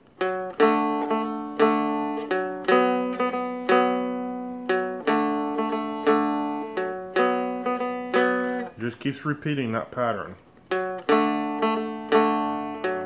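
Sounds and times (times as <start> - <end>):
strummed dulcimer: 0.0 - 9.3, 10.0 - 13.0.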